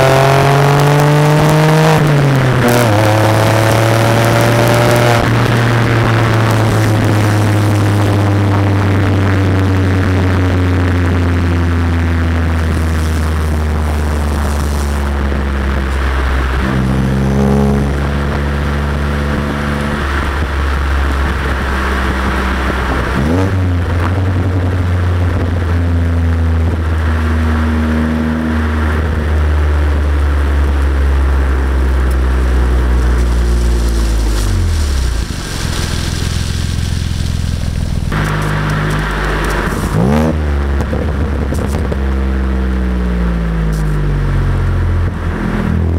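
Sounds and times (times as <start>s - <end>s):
car exhaust drone: 0.0s - 45.9s
wind noise on microphone: 0.0s - 45.9s.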